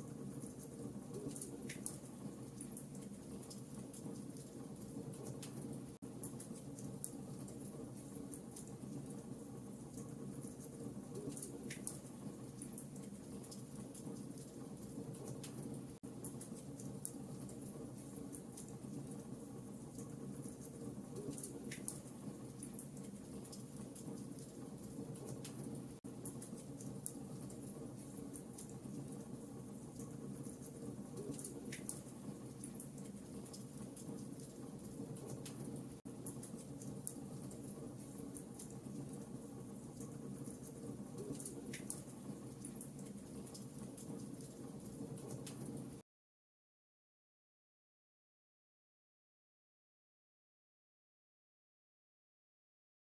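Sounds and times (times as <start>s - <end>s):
fire crackling and popping: 0.3s - 46.0s.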